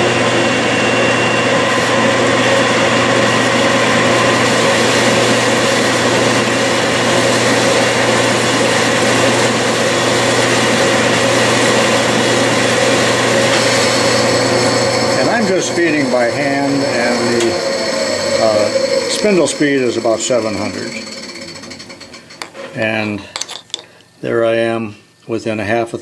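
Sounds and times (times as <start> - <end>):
metal lathe whirring: 0.0 - 22.7.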